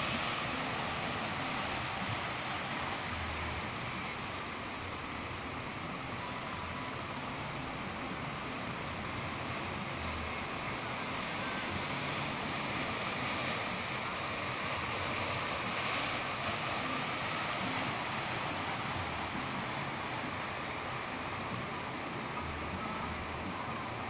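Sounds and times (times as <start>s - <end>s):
sea waves and surf: 0.0s - 24.0s.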